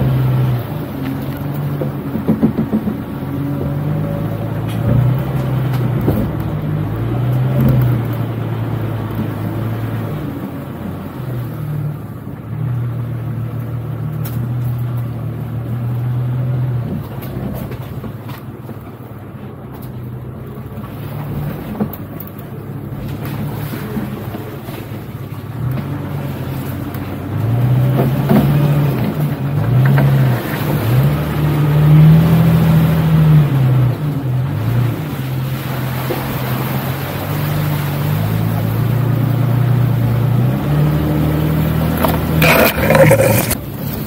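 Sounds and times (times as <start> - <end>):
car engine running under load: 0.0 - 44.0.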